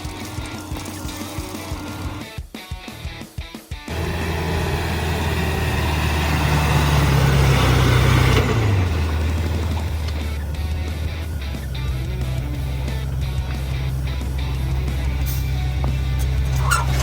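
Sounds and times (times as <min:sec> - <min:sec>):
heavy vehicle engine running: 0:00.0 - 0:02.3, 0:03.9 - 0:17.0.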